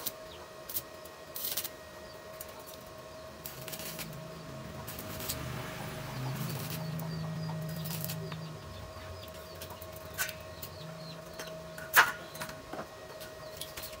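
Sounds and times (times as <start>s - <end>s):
faint steady hum: 0.0s - 14.0s
small birds chirping: 2.0s - 14.0s.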